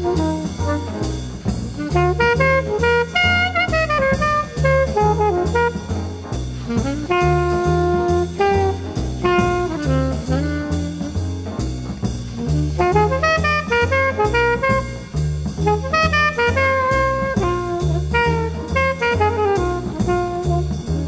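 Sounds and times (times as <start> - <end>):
jazz horn melody: 0.0 - 21.0
repeating bass line: 0.0 - 21.0
steady drum beat: 0.0 - 21.0.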